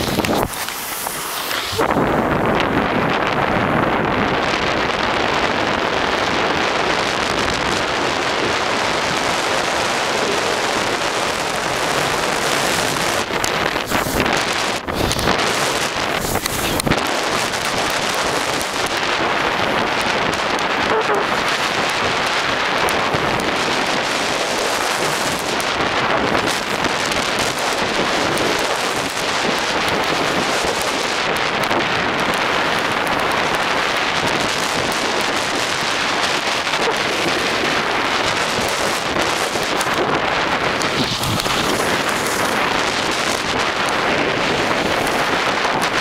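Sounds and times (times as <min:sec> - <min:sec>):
snowboard sliding on snow: 0:00.0 - 0:46.0
wind buffeting microphone: 0:00.0 - 0:46.0.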